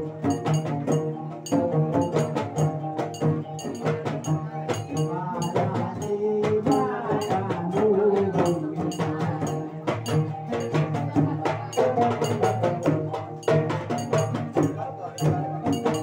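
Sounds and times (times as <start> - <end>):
acoustic guitar: 0.0 - 16.0
hand percussion: 0.0 - 16.0.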